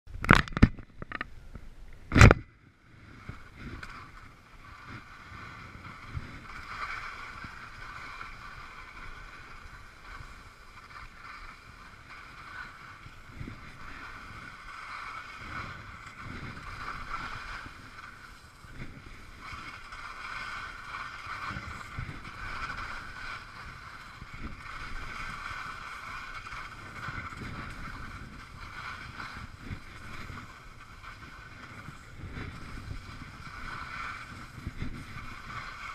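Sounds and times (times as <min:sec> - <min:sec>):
wind rumbling on microphone: 0:00.1 - 0:35.9
skis scraping over snow: 0:02.8 - 0:35.9.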